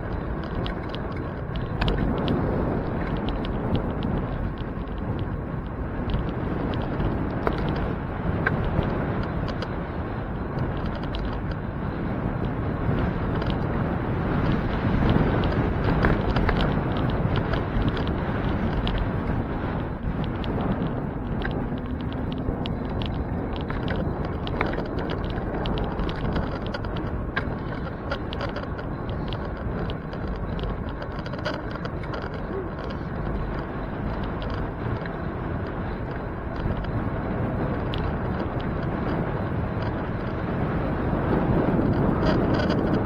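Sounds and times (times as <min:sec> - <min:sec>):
bicycle rattling clicks: 0:00.0 - 0:43.0
wind and tyre rumble: 0:00.0 - 0:43.0.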